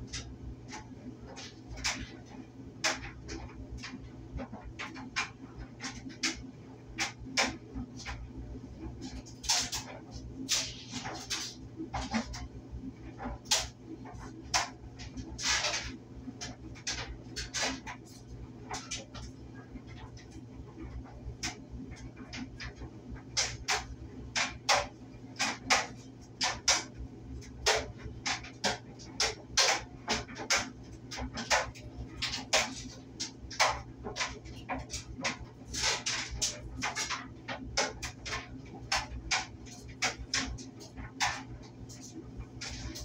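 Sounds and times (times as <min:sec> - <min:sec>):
clothes dryer humming: 0:00.0 - 0:43.0.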